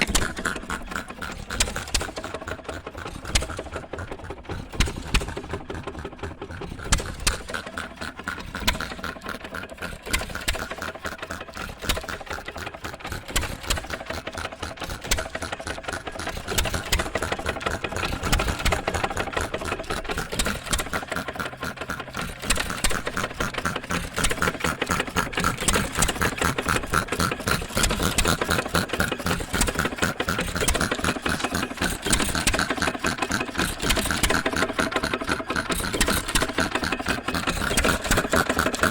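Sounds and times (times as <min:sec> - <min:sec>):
engine air compressor clattering: 0:00.0 - 0:38.9.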